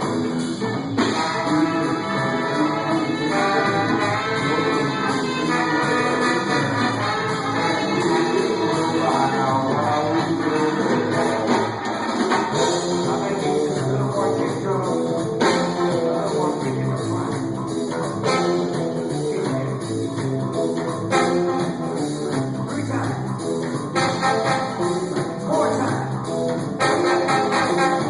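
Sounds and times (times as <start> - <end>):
bass line: 0.0 - 28.0
electric guitar: 0.0 - 28.0
live rock band playing: 0.0 - 28.0.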